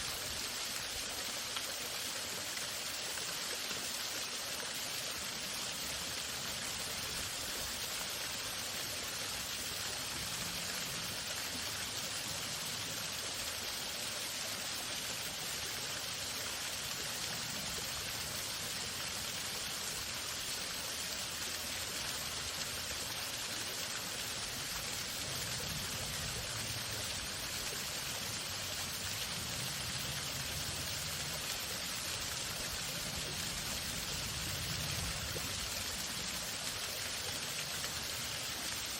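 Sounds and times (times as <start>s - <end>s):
waterfall running: 0.0s - 38.9s.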